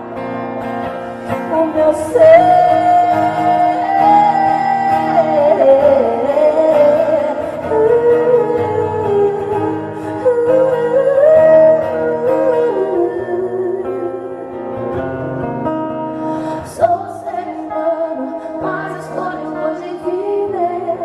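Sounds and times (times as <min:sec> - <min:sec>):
wordless lead melody: 0:00.0 - 0:21.0
person singing: 0:01.3 - 0:14.8, 0:16.2 - 0:21.0.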